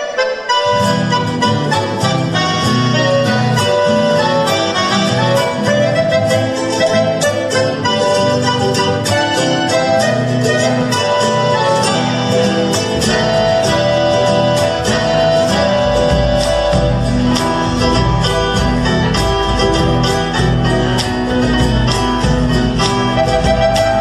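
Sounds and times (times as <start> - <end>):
folk music on strummed guitars: 0.0 - 24.0.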